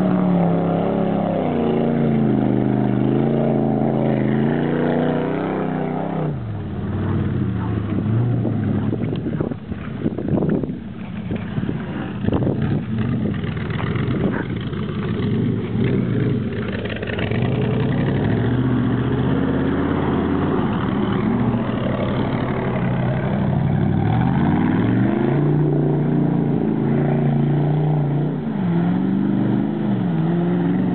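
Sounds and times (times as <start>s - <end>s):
engine running and revving: 0.0s - 30.9s.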